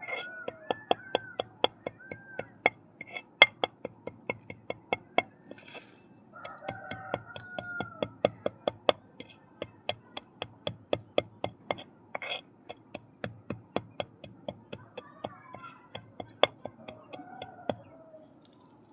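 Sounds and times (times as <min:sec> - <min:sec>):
mud being crushed: 0:00.0 - 0:17.9.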